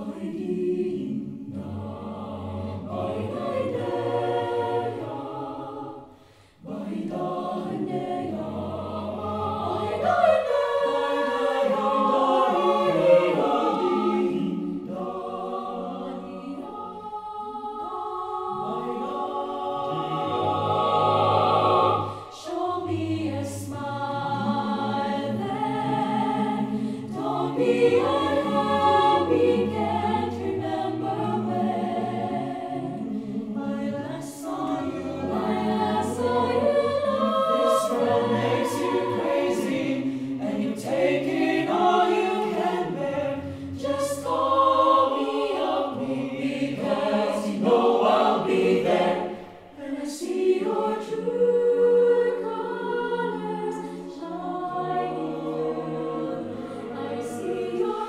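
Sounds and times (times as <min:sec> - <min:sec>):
mixed choir singing a cappella: 0:00.0 - 0:58.0.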